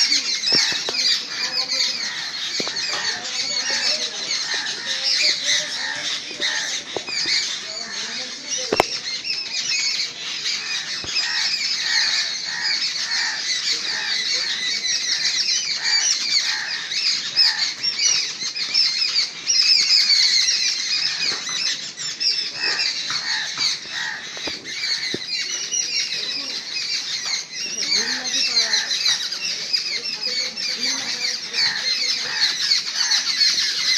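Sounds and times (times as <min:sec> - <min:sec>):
flock of birds calling harshly: 0:00.0 - 0:33.9.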